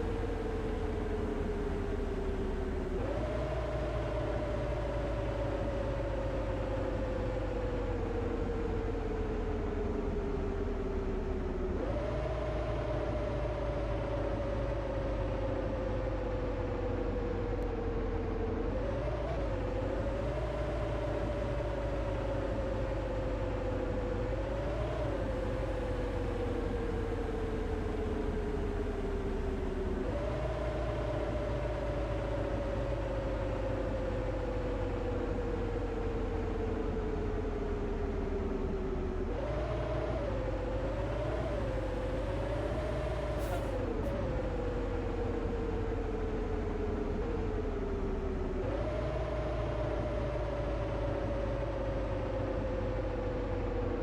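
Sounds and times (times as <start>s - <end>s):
bus running with road noise: 0.0s - 54.0s
engine whine: 0.0s - 54.0s.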